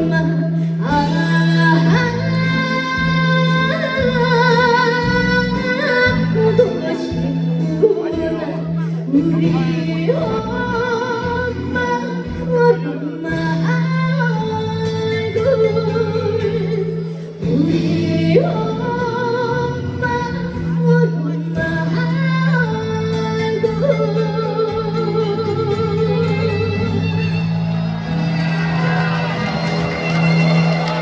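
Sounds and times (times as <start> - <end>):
backing track with bass: 0.0 - 31.0.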